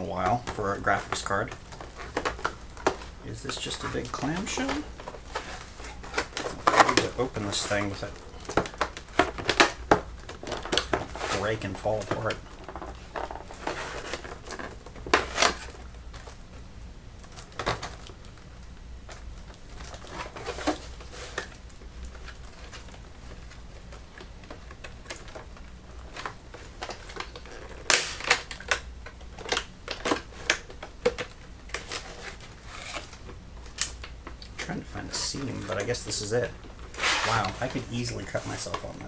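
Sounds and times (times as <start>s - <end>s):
plastic packaging clicking and crackling: 0.0s - 16.6s, 17.2s - 39.0s.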